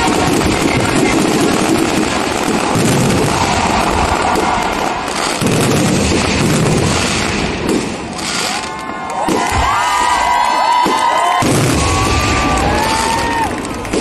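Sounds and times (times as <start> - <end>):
fireworks bangs and crackle: 0.0 - 14.0.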